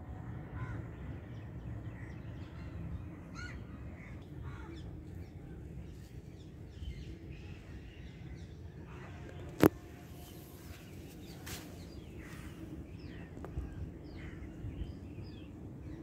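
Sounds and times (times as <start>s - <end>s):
birds chirping: 1.4s - 16.0s.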